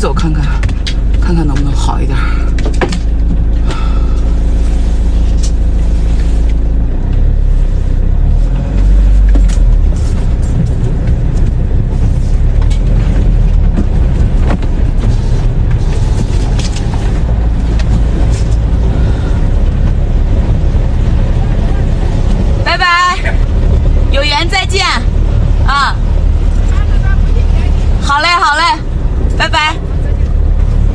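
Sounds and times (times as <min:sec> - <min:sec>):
engine and road rumble: 0:00.0 - 0:30.9.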